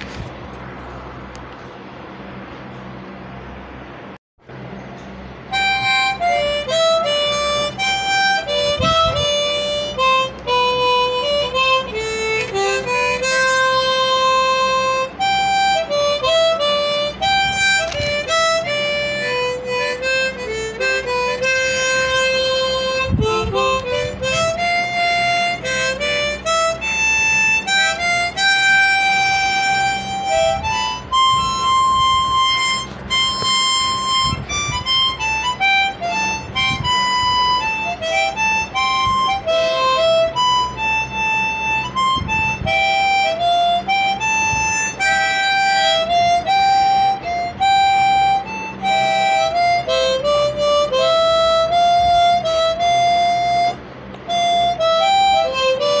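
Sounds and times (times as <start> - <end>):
slow instrumental melody: 0.0 - 56.0.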